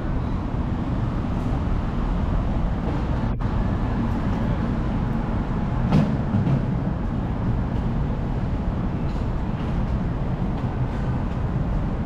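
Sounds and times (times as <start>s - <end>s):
low rumble of passing traffic: 0.0s - 12.0s.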